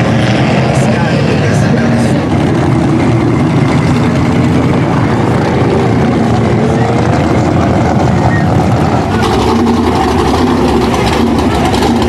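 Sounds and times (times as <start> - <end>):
off-road truck engines running: 0.0 - 12.0.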